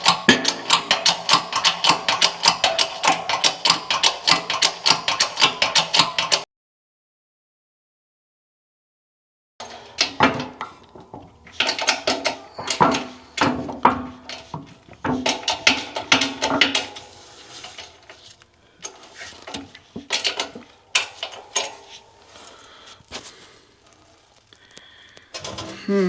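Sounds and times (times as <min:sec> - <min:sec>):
steel tools clanking on metal: 0:00.0 - 0:06.4, 0:09.6 - 0:26.0.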